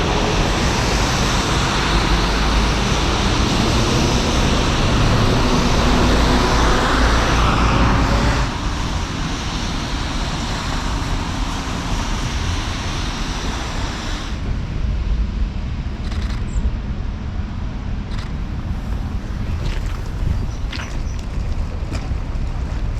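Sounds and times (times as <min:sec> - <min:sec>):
city street traffic rumble: 0:00.0 - 0:22.9.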